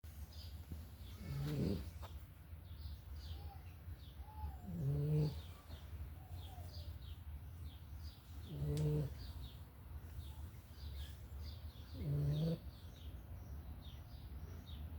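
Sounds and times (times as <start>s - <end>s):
faint bird chirps: 0.2s - 14.9s.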